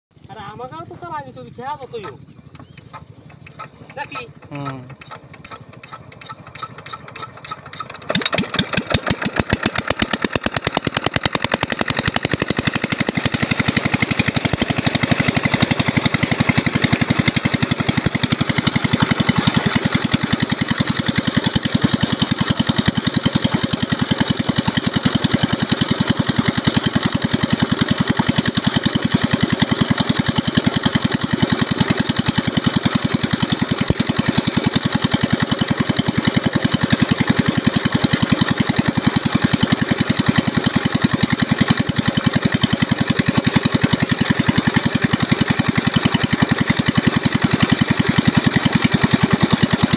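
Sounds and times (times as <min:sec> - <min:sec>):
diesel engine running: 0:00.1 - 0:49.9
water gushing from pump: 0:04.9 - 0:49.9.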